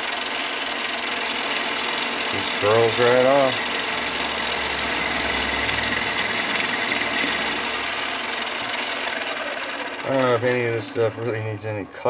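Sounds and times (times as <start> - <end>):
tool cutting copper: 0.0 - 11.4
lathe motor hum: 0.0 - 12.0.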